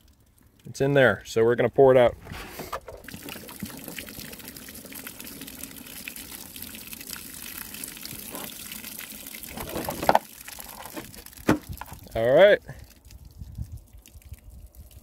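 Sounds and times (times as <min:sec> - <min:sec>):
water pouring from plastic jug: 0:02.1 - 0:15.0.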